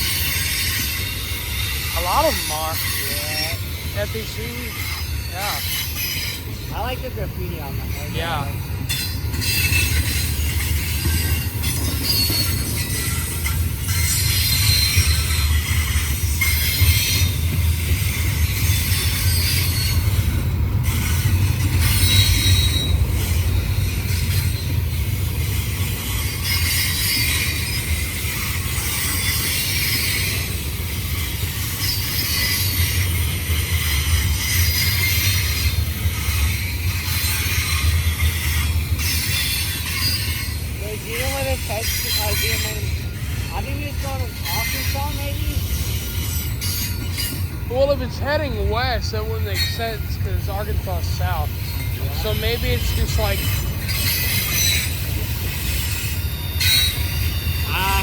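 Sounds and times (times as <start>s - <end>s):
wheel squeal: 0.0s - 7.2s, 7.9s - 58.0s
freight train rolling past: 0.0s - 58.0s.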